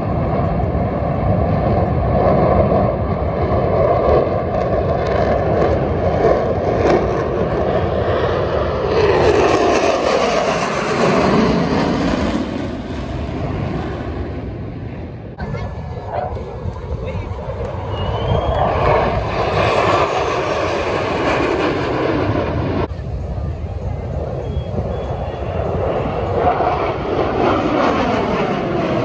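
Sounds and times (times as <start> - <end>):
jets flying overhead: 0.0 - 29.0.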